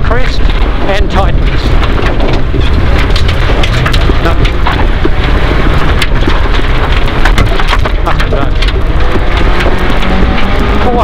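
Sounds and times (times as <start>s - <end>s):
car engine and tyres on gravel: 0.0s - 11.0s
gravel rattling against underbody: 0.0s - 11.0s.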